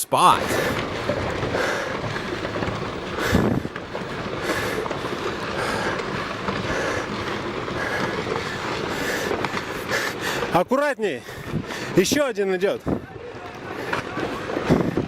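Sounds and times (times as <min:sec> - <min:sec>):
landslide rushing rumble: 0:00.1 - 0:15.0.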